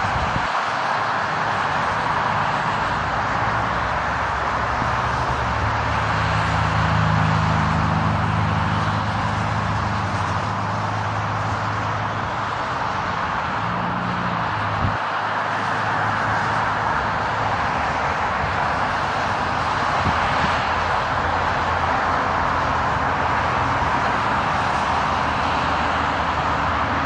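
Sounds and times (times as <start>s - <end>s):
jet airliner takeoff rush: 0.0s - 27.0s.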